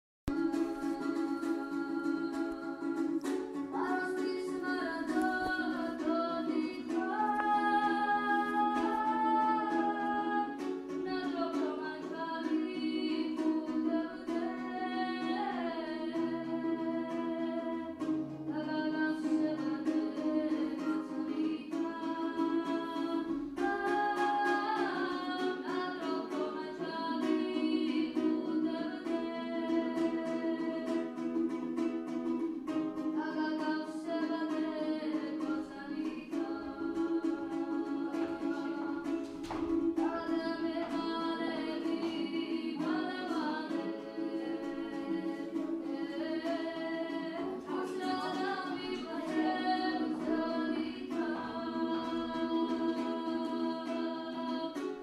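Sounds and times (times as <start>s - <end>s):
lute strummed: 0.3s - 55.0s
person singing: 0.3s - 55.0s.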